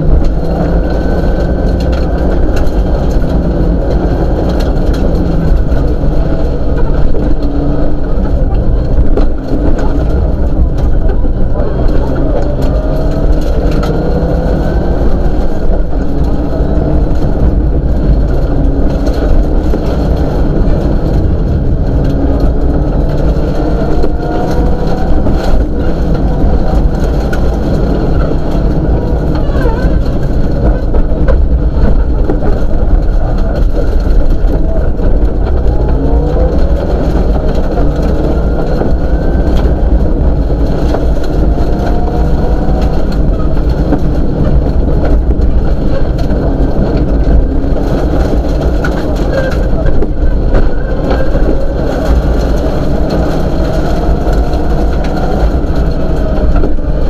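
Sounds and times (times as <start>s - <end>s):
car engine revving through gears: 0.0s - 57.0s
road and gravel noise: 0.0s - 57.0s.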